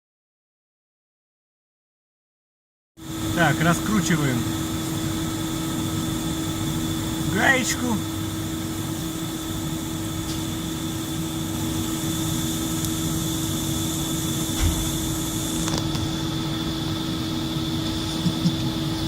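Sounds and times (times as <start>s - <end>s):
workshop machinery hum: 3.0s - 19.0s.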